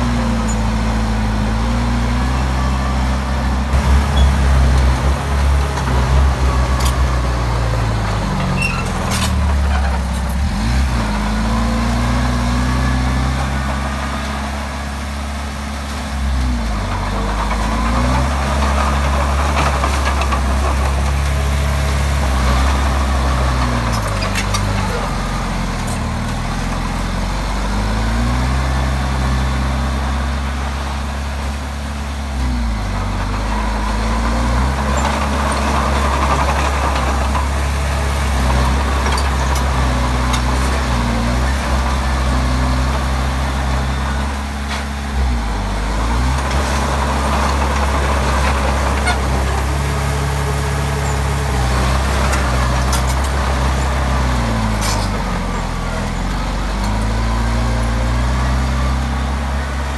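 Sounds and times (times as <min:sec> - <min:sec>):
bulldozer diesel engine: 0:00.0 - 0:59.9
rough mechanical noise: 0:00.0 - 0:59.9.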